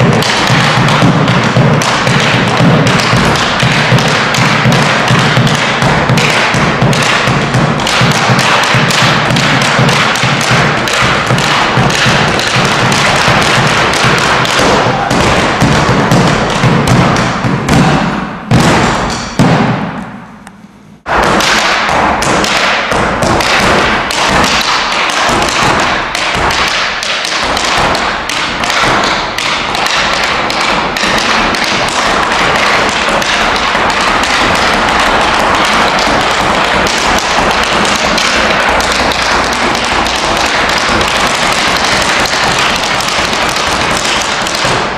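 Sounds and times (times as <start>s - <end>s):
dancer stamping footwork: 0.0s - 20.2s, 21.0s - 44.9s
bass drum beaten with sticks: 0.0s - 20.3s, 21.0s - 44.9s.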